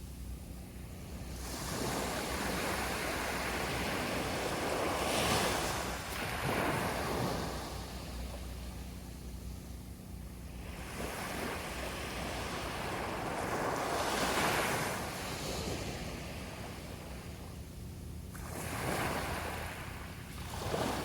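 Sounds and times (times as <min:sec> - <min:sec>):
sea waves breaking on beach: 0:01.1 - 0:08.8, 0:10.5 - 0:17.4, 0:18.3 - 0:21.0.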